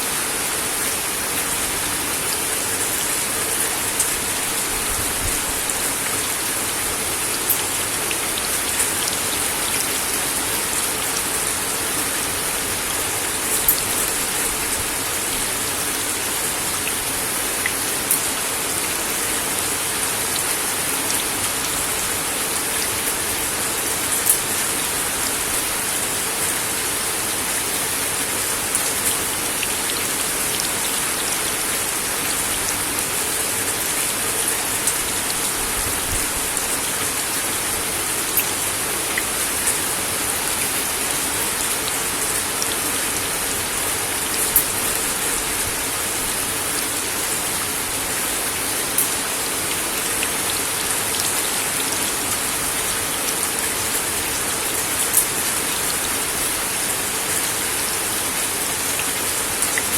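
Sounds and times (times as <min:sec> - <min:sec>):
rain on a wooden deck: 0:00.0 - 0:59.9.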